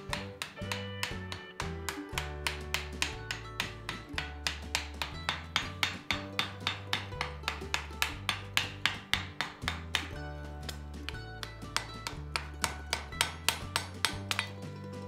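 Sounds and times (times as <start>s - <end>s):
background music with bass: 0.0s - 15.0s.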